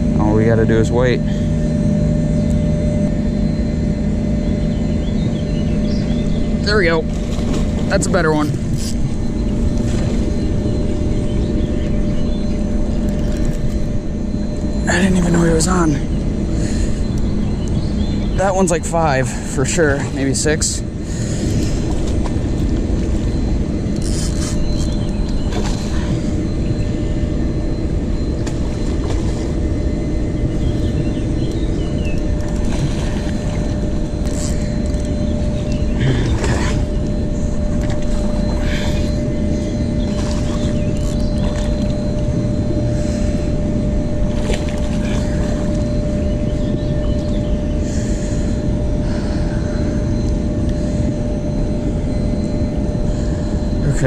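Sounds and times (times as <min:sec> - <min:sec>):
faint constant whine: 0:00.0 - 0:54.0.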